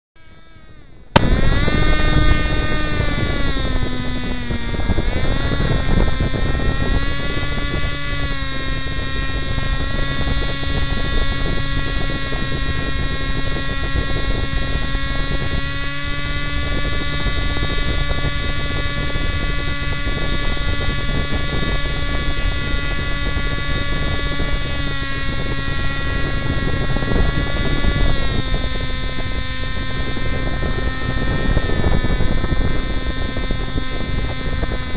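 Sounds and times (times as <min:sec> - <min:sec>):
propeller engine running hard: 0:00.2 - 0:34.9.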